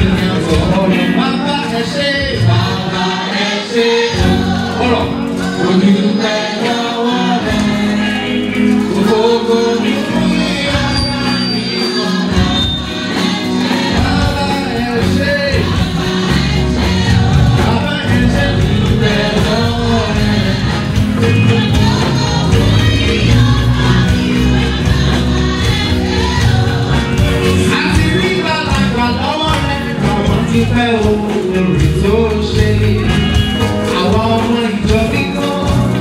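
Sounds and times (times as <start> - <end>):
man singing into microphone: 0.0 - 24.8, 27.0 - 36.0
gospel choir singing: 0.0 - 36.0
instrumental accompaniment: 0.0 - 36.0.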